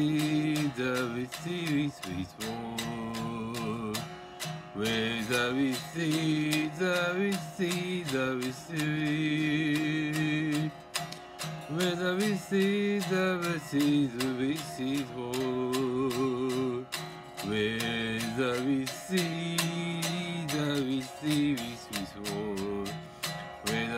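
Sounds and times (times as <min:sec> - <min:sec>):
electric guitar strumming: 0:00.0 - 0:23.9
man singing: 0:00.0 - 0:23.9.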